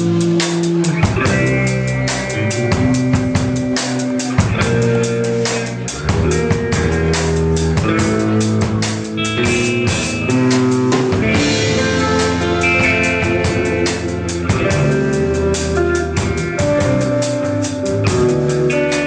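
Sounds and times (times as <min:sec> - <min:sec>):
bass guitar notes: 0:00.0 - 0:19.0
drum kit beat: 0:00.0 - 0:19.0
electric guitar: 0:00.0 - 0:19.0.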